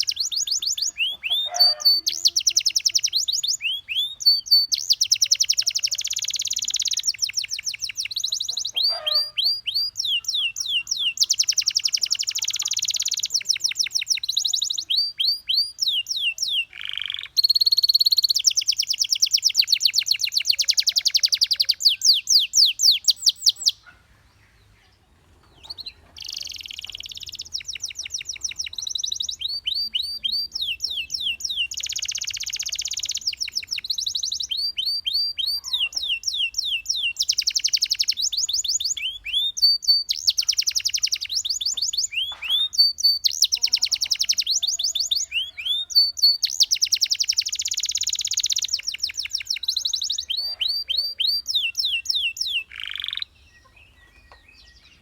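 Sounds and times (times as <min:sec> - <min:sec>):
canary singing rapid trills: 0:00.0 - 0:24.0, 0:25.4 - 0:55.0.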